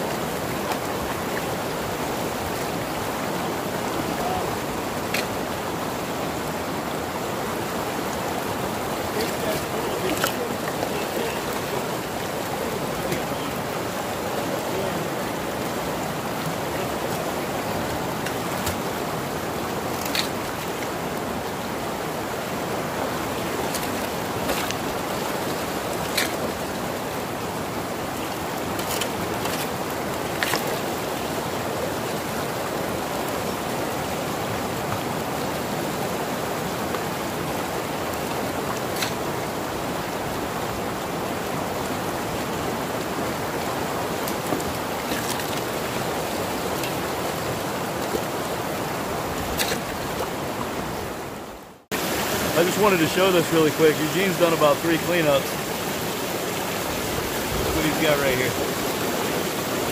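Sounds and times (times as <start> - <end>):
water rushing through sluice box: 0.0 - 59.9.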